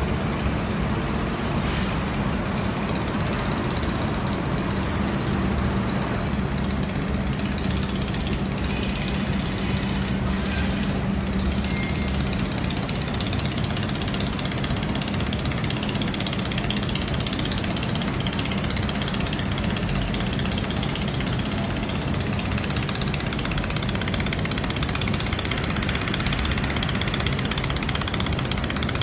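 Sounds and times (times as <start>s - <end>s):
machine hum: 0.0s - 29.0s.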